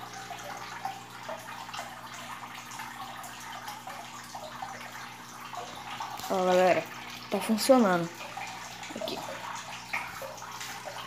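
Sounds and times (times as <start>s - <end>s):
small water splashes: 0.0s - 11.0s
water trickling and bubbling: 0.0s - 11.0s.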